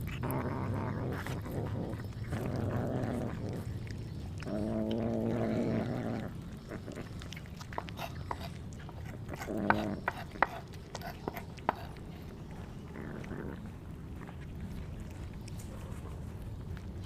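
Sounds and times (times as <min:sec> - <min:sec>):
kittens growling: 0:00.0 - 0:15.4.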